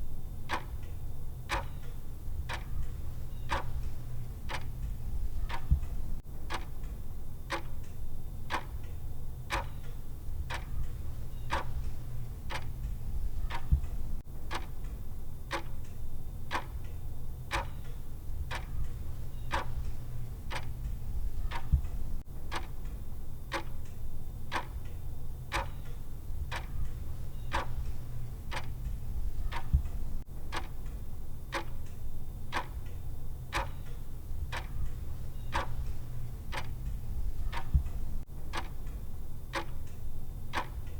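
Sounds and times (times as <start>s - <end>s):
low steady hum: 0.0s - 40.9s
clock ticking: 0.4s - 40.9s.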